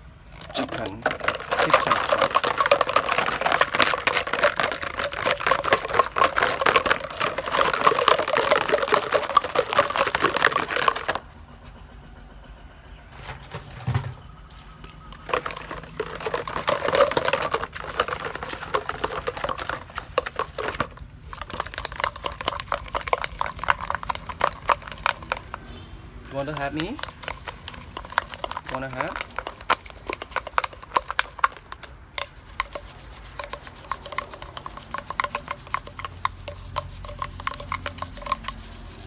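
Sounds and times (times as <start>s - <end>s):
crackly scrubbing of bottles: 0.0s - 11.2s, 14.8s - 39.0s.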